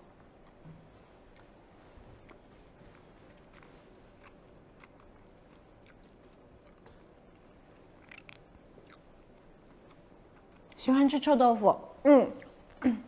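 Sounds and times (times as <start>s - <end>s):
close-up chewing of food: 0.1s - 10.8s.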